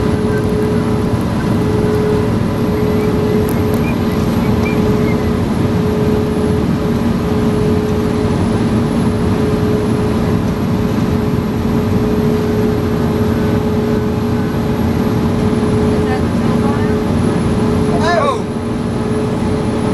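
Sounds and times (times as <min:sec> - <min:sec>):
fire engine drone: 0:00.0 - 0:19.9
road noise: 0:00.0 - 0:19.9.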